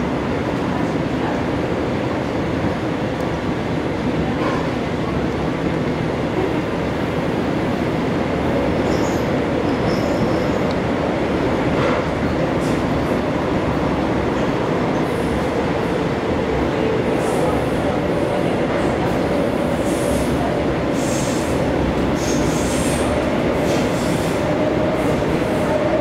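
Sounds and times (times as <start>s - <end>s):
subway car wheels rumbling: 0.0s - 26.0s.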